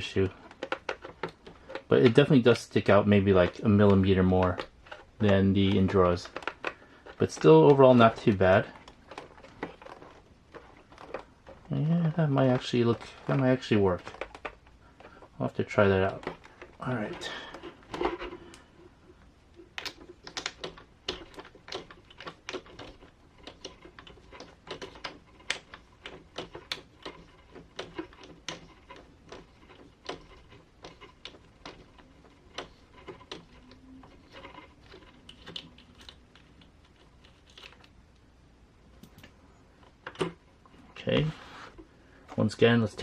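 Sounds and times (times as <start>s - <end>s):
small plastic parts clicking: 0.0s - 38.3s, 38.9s - 43.0s.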